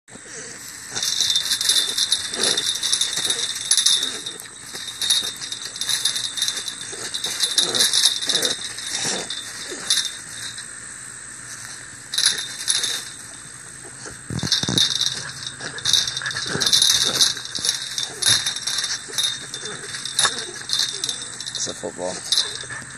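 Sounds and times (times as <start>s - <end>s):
puppies whining: 0.3s - 10.7s, 11.4s - 22.9s
chain-link fence rattling: 0.4s - 22.9s.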